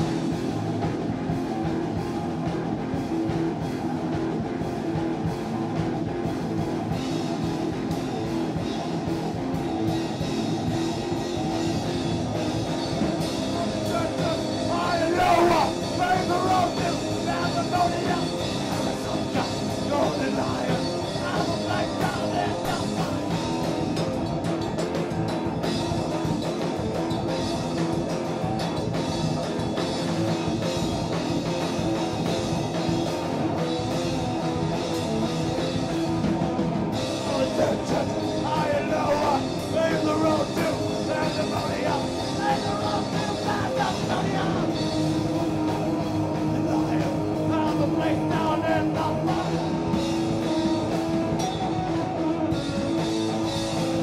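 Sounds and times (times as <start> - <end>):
drums and cymbals: 0.0 - 54.0
electric guitar: 0.0 - 54.0.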